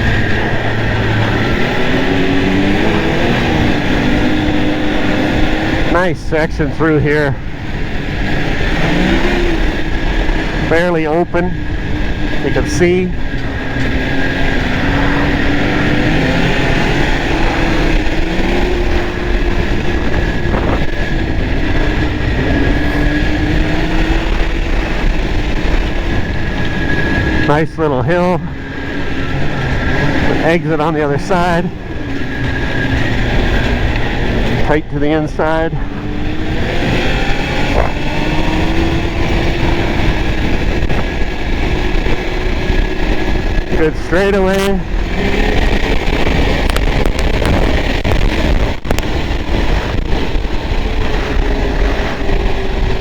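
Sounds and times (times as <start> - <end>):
high whine: 0.0 - 53.0
snowmobile engine running: 0.0 - 53.0
wind noise on microphone: 0.0 - 53.0.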